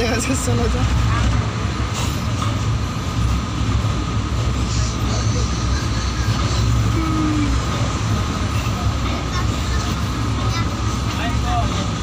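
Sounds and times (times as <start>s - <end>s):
train rumbling over bridge: 0.0s - 12.0s.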